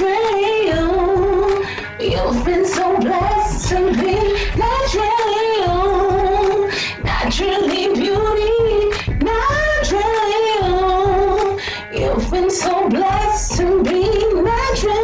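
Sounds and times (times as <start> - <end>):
light beat: 0.0 - 15.0
woman singing slow melody: 0.0 - 15.0.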